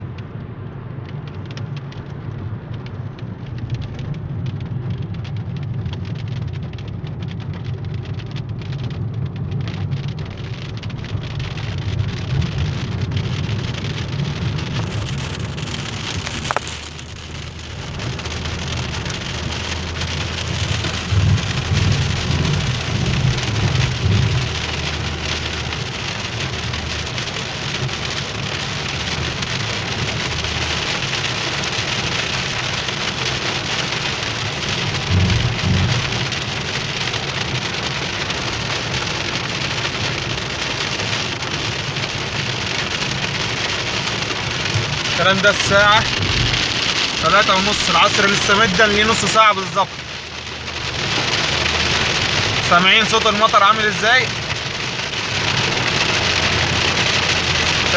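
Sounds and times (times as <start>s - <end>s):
car rumbling on the road: 0.0s - 57.9s
heavy rain on a car: 0.0s - 57.9s.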